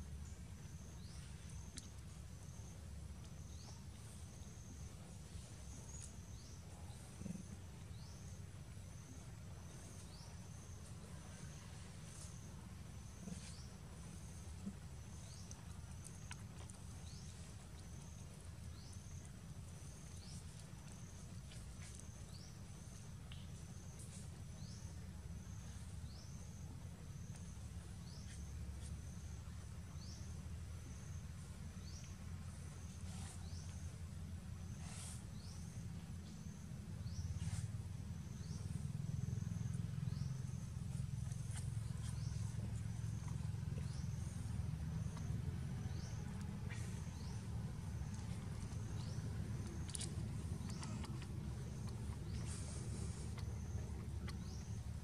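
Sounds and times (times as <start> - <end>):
low outdoor rumble: 0.0 - 55.0.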